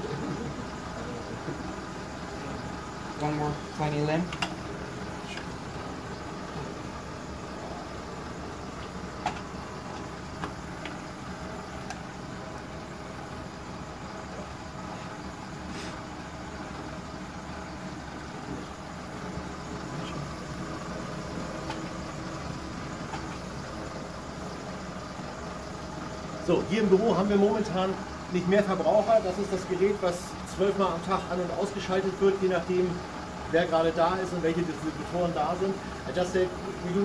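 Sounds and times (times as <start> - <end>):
electric box fan blowing: 0.0 - 37.0
generator motor hum: 0.0 - 37.0.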